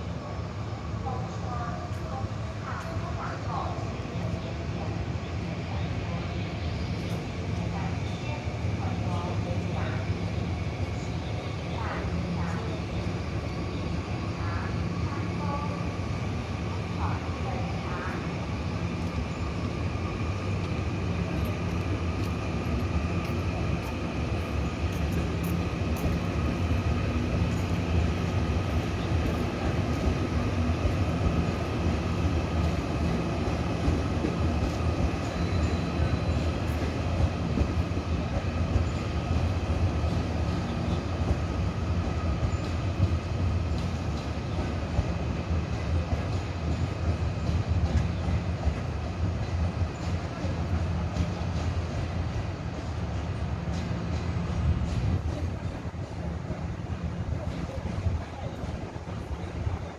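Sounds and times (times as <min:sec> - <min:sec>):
electric train low hum: 0:00.0 - 0:59.9.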